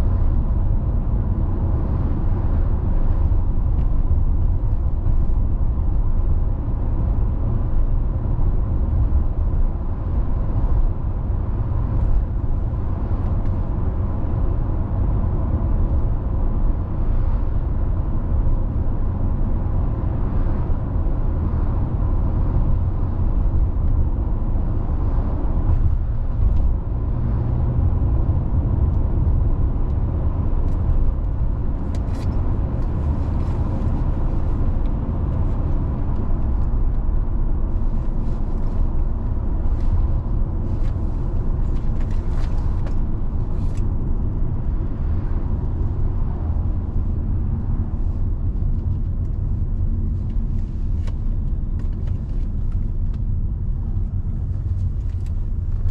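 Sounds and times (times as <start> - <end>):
car engine: 0.0 - 55.9
road and tyre rumble: 0.0 - 55.9.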